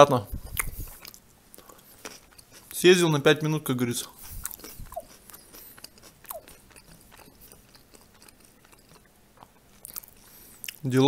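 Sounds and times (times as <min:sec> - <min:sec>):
soft mouth clicks: 0:00.3 - 0:02.6, 0:04.2 - 0:10.8
close-up chewing: 0:00.3 - 0:02.8, 0:04.0 - 0:10.8.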